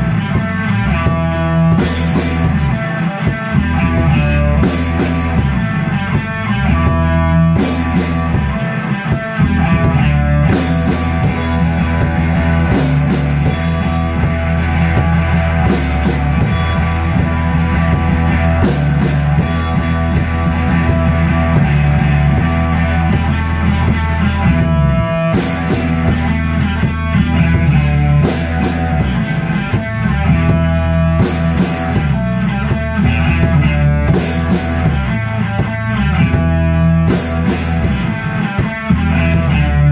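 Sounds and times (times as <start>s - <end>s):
electric bass line: 0.0s - 39.9s
rock band playing: 0.0s - 39.9s.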